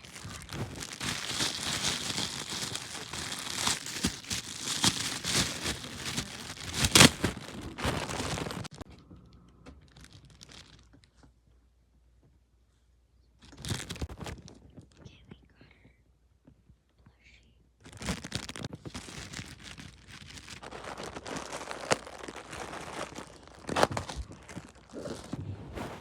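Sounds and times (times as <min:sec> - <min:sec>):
crinkling and rustling: 0:00.0 - 0:11.6, 0:13.4 - 0:15.1, 0:17.8 - 0:26.0.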